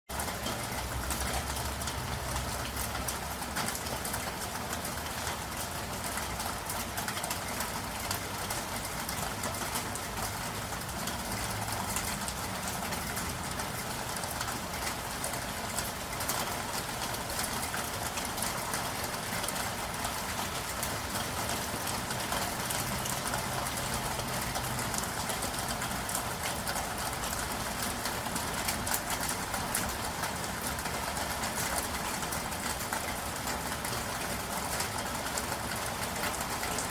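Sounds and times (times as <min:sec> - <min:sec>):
raindrop ticks: 0:00.1 - 0:36.9.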